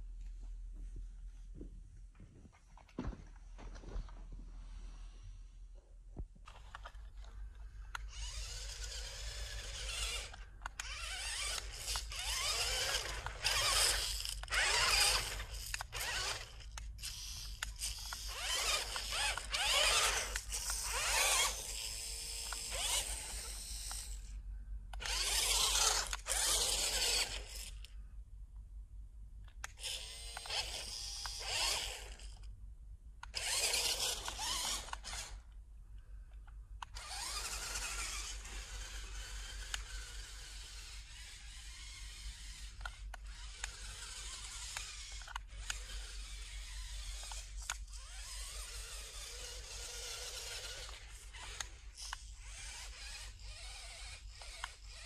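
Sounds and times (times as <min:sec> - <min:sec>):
small electric motor whirring: 0:06.4 - 0:28.0, 0:29.6 - 0:32.5, 0:33.2 - 0:35.6, 0:36.8 - 0:55.0.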